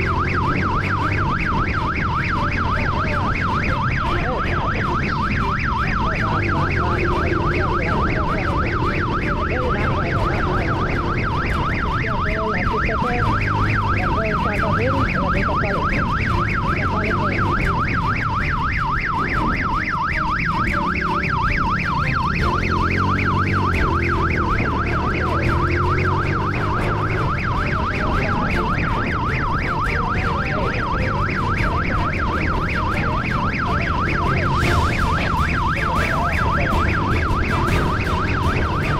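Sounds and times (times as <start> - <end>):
motorcycle engine: 0.0 - 38.9
police siren yelping: 0.0 - 38.9
road noise: 0.0 - 38.9.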